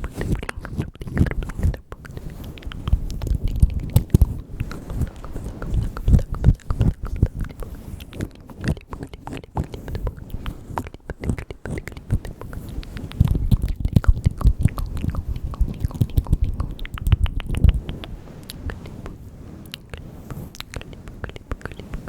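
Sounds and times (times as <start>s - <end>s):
wet mouth clicks and smacks: 0.0s - 22.0s.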